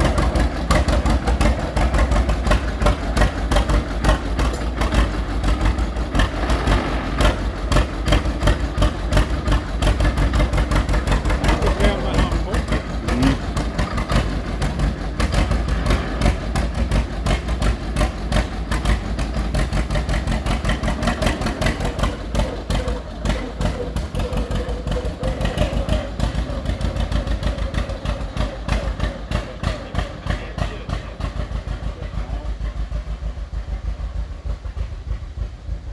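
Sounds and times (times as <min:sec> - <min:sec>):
tractor engine loping beat: 0:00.0 - 0:35.9.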